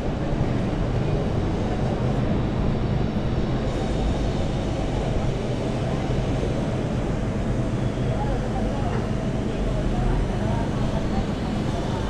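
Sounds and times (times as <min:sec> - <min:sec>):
city square low rumble: 0:00.0 - 0:12.0.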